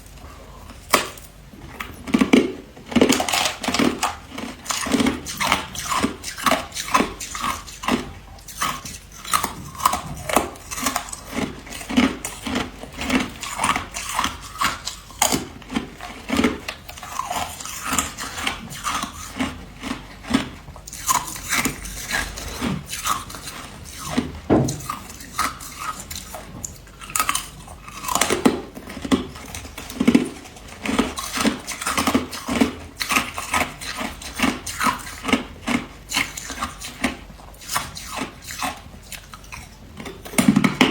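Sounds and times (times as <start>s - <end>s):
ice being chewed with crunches: 0.0s - 40.9s.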